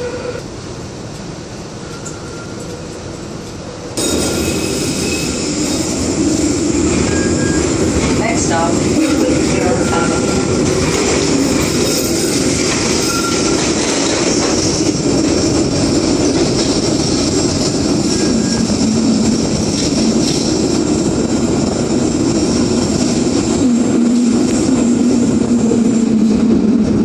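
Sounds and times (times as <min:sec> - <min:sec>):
streetcar wheels rumbling on rails: 0:00.0 - 0:27.0.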